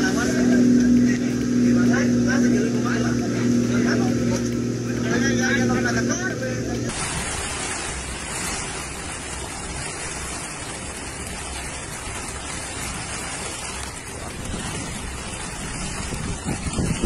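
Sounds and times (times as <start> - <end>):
floodwater flowing: 0.0 - 17.0
heavy rain: 0.0 - 17.0.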